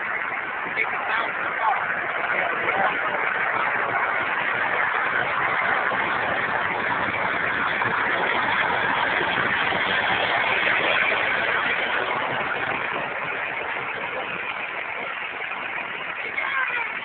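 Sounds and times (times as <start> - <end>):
jet plane engines overhead: 0.0 - 16.8.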